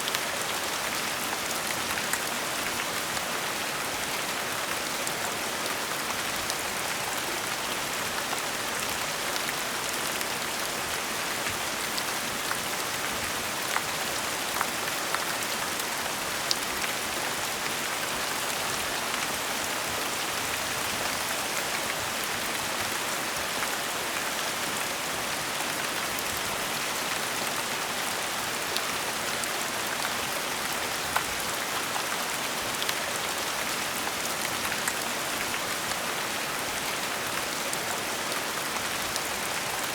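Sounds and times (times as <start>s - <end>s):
gentle steady rain: 0.0s - 39.9s.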